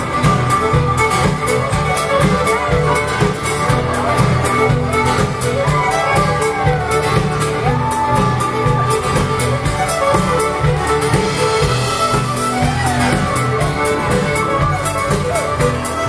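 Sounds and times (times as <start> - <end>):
fiddles playing dance tune: 0.0 - 16.0
steady drum beat: 0.0 - 16.0.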